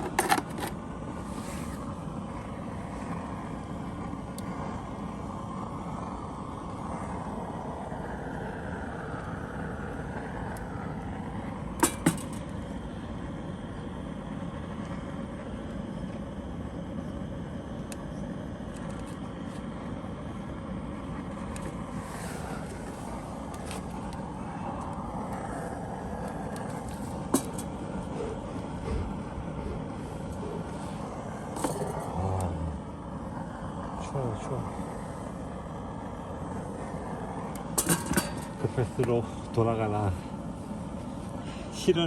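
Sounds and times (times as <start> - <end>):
road vehicle engine noise: 0.0 - 42.0.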